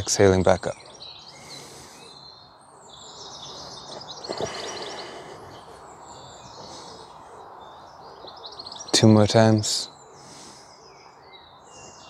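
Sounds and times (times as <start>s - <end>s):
outdoor background hiss: 0.0s - 12.0s
songbirds chirping and singing: 0.0s - 12.0s.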